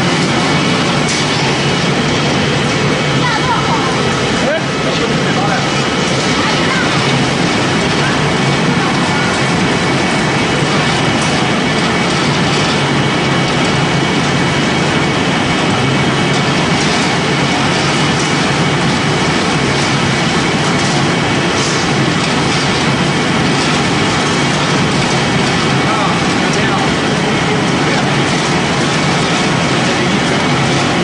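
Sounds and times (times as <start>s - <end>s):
pellet machine running: 0.0s - 31.0s.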